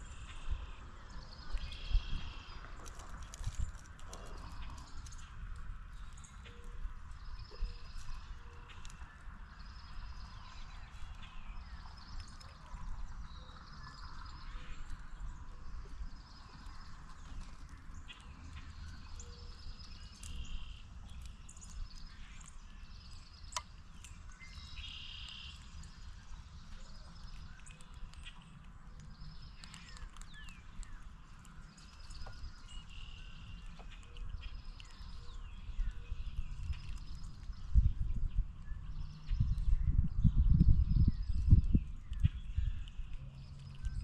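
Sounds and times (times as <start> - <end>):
low rumble of outdoor noise: 0.0 - 44.0
wild birds chirping: 0.0 - 44.0.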